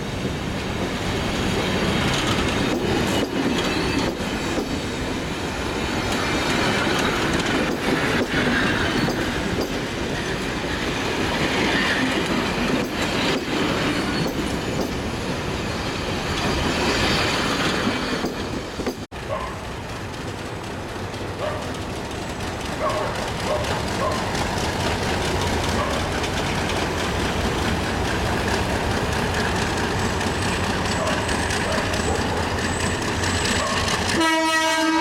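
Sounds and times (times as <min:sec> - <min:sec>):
train rumble: 0:00.0 - 0:35.0
train wheels clacking over rail joints: 0:01.4 - 0:15.2, 0:16.3 - 0:35.0.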